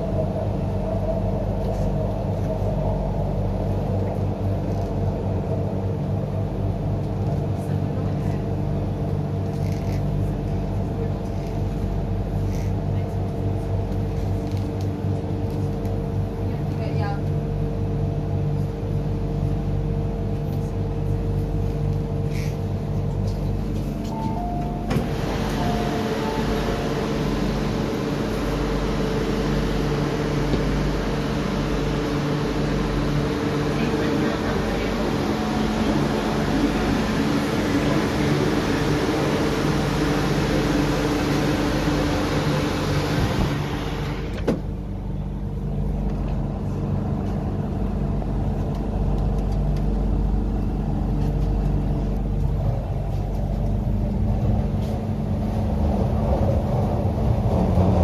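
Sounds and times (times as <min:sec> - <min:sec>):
low train hum: 0:00.0 - 0:58.0.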